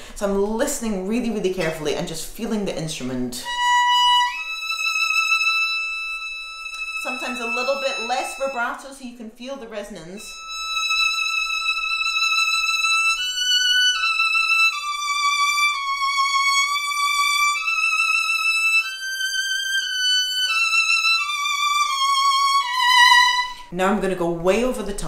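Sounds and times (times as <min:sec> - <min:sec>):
solo violin bowed notes: 0:03.4 - 0:23.7.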